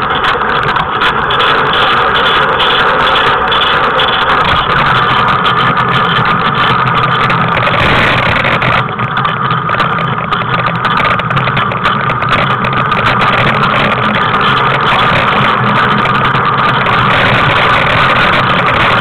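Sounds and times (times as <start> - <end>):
tricycle wheels rolling on asphalt: 0.0 - 19.0.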